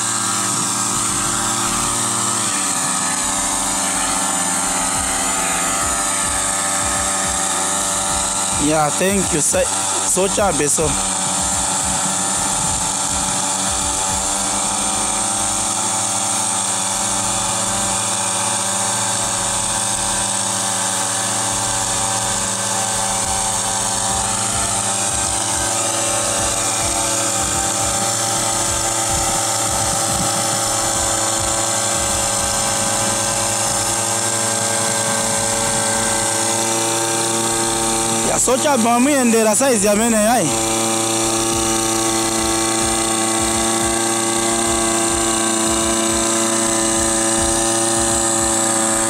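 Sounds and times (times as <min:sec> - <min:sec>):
two-stroke sprayer engines running: 0:00.0 - 0:49.0.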